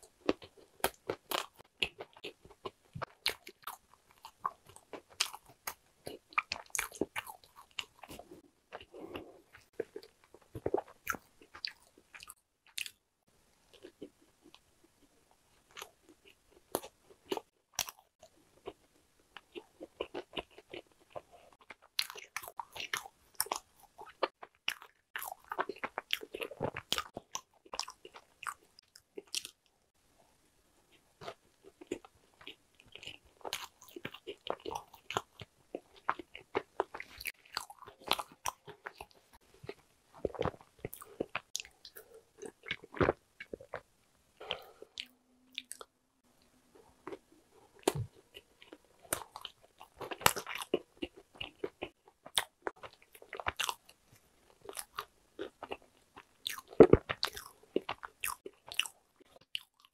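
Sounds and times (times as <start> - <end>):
crunching and chewing: 0.0 - 13.0, 13.7 - 29.7, 30.9 - 59.9.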